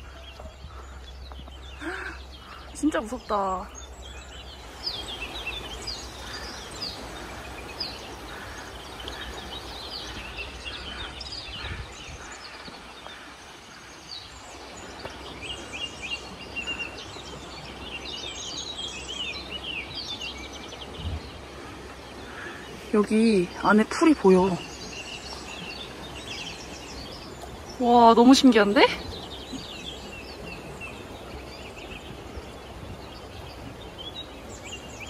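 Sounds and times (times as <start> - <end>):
songbirds chirping and trilling: 0.0 - 35.0
steady background hiss: 0.0 - 35.0.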